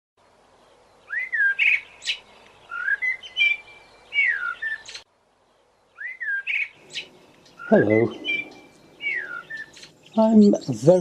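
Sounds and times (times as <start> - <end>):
songbird chirping and whistling: 0.6 - 10.7.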